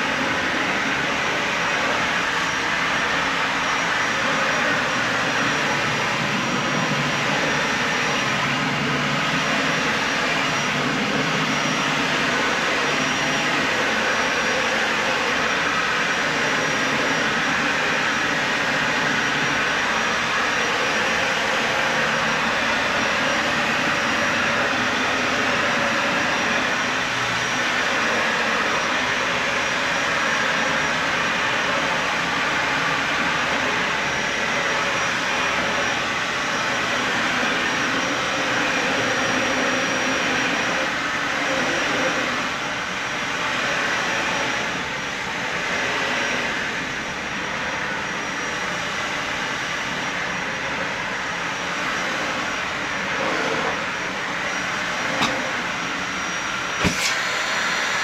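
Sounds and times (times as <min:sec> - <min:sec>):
vacuum cleaner running over carpet: 0:00.0 - 0:58.0.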